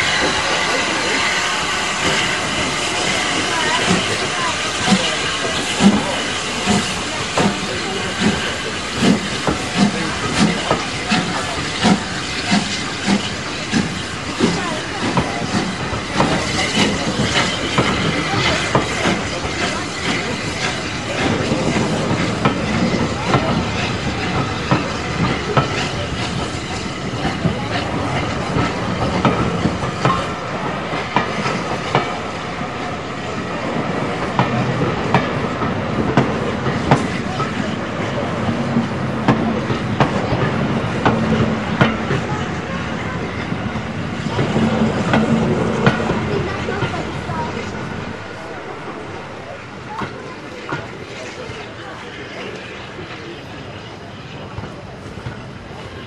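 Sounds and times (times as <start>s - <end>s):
railway coaches rumbling: 0.0s - 56.0s
steam hiss: 0.0s - 56.0s
steam locomotive exhaust beats: 0.0s - 56.0s
train wheels clicking over rail joints: 0.0s - 56.0s.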